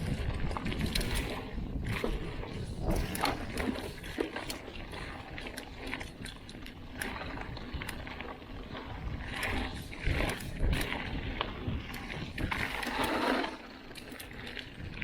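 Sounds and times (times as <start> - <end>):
bike tyres on dirt: 0.0 - 15.0
wind rumble on microphone: 0.0 - 15.0.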